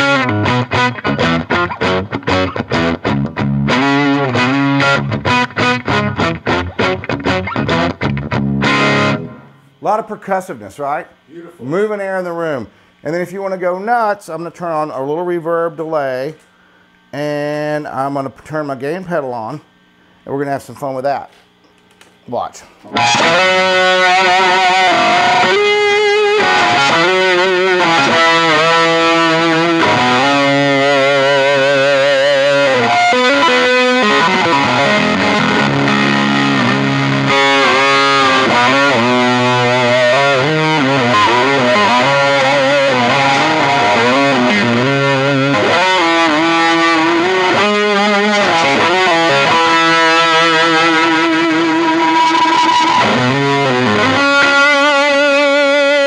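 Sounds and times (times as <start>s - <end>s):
distorted electric guitar lead: 0.0s - 10.2s, 20.9s - 56.0s.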